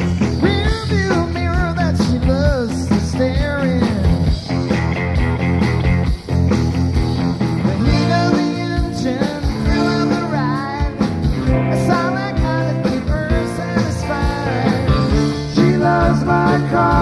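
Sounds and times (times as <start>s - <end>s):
drums steady beat: 0.0s - 17.0s
live rock band playing: 0.0s - 17.0s.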